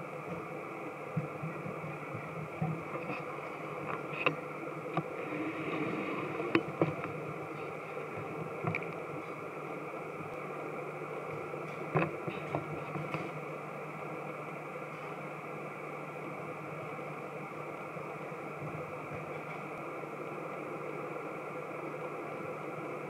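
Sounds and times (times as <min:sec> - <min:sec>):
machinery hum with high whine: 0:00.0 - 0:23.0.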